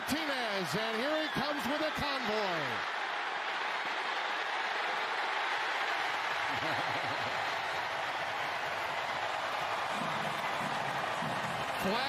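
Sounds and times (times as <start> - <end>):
stadium crowd cheering: 0.0 - 12.0.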